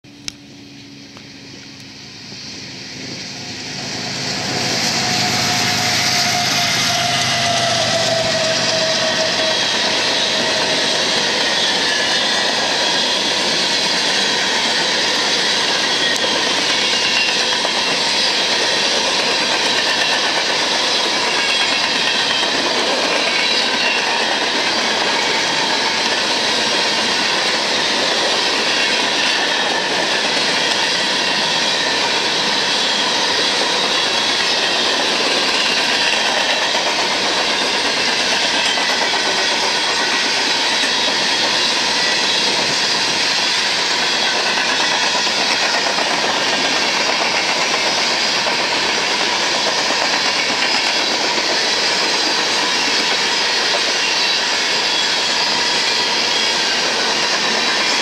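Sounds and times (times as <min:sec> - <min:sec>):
diesel locomotives passing: 0:00.0 - 0:58.0
freight cars rumbling on rails: 0:00.1 - 0:58.0.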